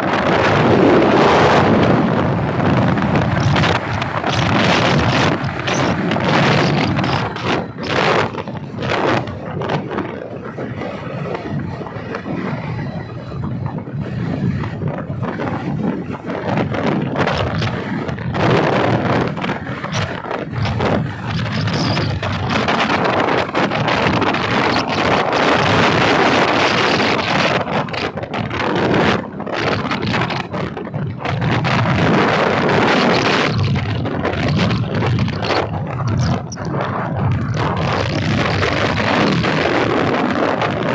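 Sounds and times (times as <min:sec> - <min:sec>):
motorcycle engine and road rumble: 0:00.0 - 0:40.9
wind buffeting microphone: 0:00.0 - 0:40.9.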